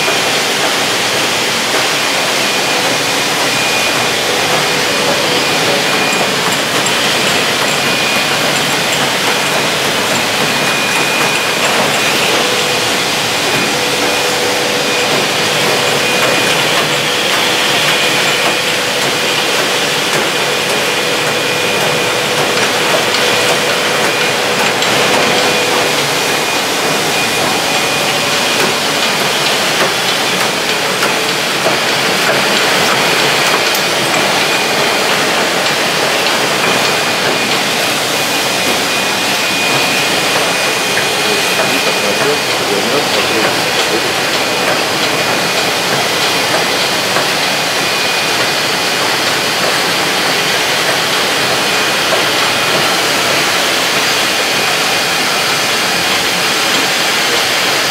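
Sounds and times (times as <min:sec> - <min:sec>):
bottling machine running: 0:00.0 - 0:57.9
high whine: 0:00.0 - 0:57.9.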